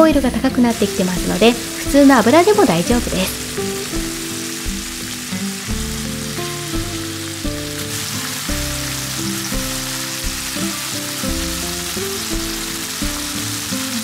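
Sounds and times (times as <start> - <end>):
chicken sizzling in frying pan: 0.0 - 14.0
soft melodic background music: 0.0 - 14.0.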